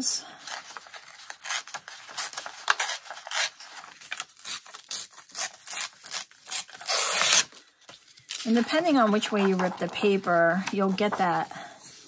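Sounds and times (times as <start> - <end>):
paper rustling and creasing: 0.4 - 12.0.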